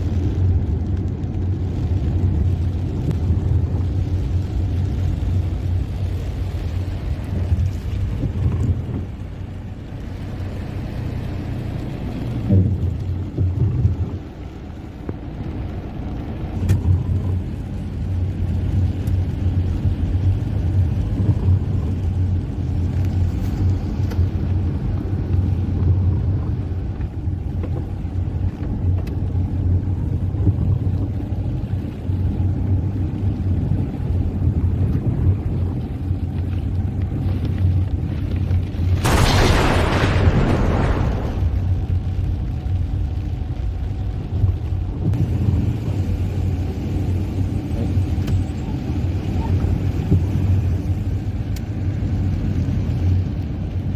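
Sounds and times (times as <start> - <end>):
car driving on wet road: 0.0 - 53.9.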